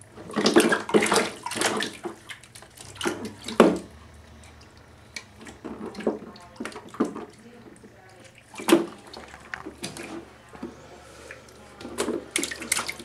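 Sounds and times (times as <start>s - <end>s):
baby splashing water in bathtub: 0.0s - 13.0s.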